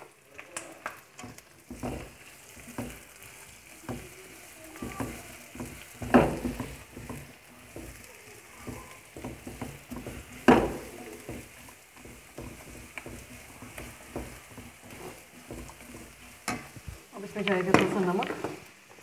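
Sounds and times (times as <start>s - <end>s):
faint sizzle of frying: 0.0s - 19.0s
spatula scraping a wok: 1.2s - 17.2s.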